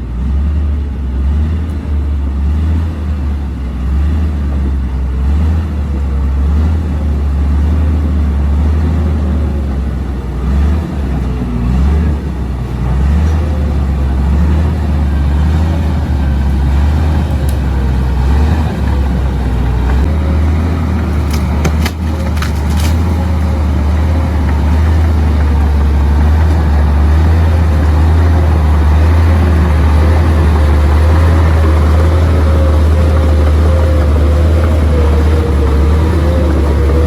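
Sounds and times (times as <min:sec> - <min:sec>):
bulldozer diesel engine rumbling: 0:00.0 - 0:37.0
steady whine: 0:00.7 - 0:37.0.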